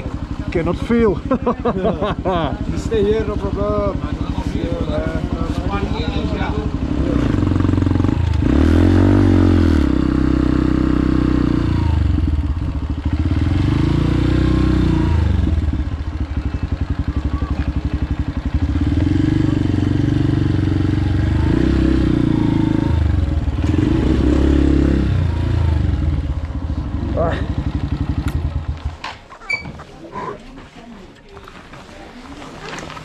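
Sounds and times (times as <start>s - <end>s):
motorbike engine revving: 0.0s - 29.1s.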